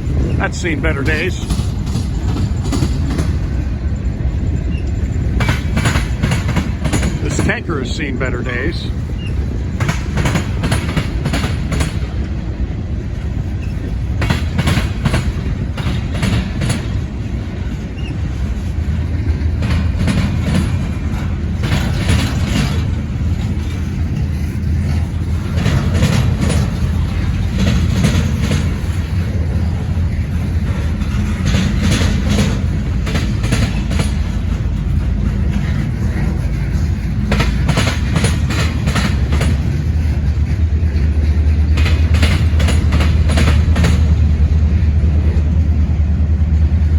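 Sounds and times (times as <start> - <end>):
train cars rumbling: 0.0 - 46.9
wheels clacking over rail joints: 0.0 - 46.9.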